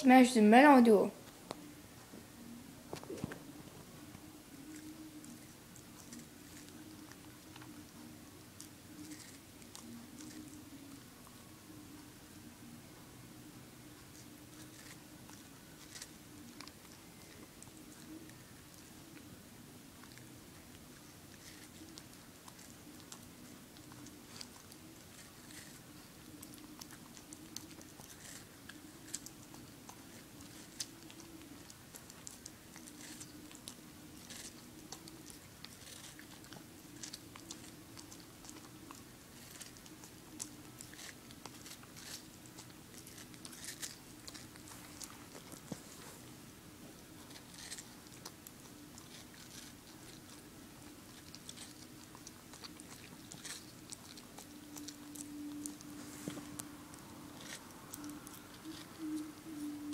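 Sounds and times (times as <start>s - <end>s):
faint steady hum: 0.0s - 59.9s
dog crunching watermelon: 2.4s - 12.8s, 13.4s - 59.9s.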